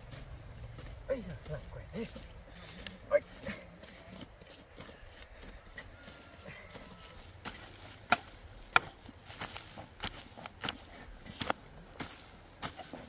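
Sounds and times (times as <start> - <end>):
hoes chopping into soil: 1.2 - 13.0.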